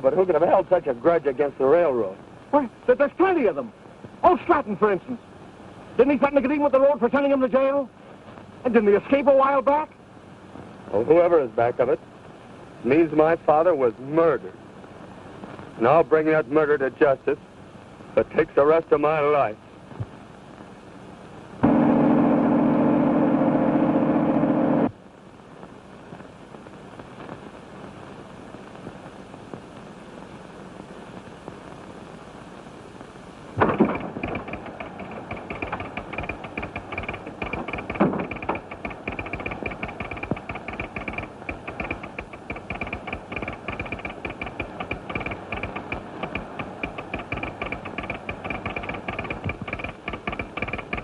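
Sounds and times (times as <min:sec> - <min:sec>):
low hiss: 0:00.0 - 0:51.0.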